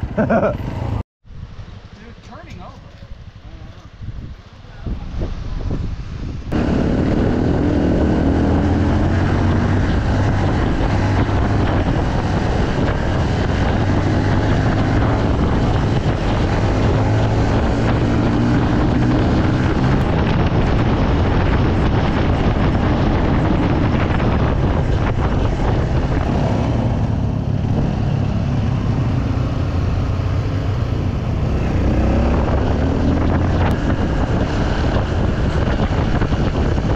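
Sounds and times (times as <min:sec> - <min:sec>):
motorcycle engine revving: 0:00.0 - 0:01.0, 0:06.5 - 0:36.9
wind on microphone: 0:02.6 - 0:36.9.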